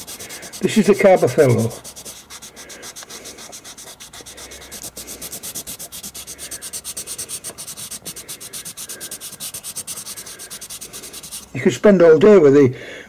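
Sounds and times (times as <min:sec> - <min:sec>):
pastel pencil scratching on paper: 0:00.0 - 0:11.6.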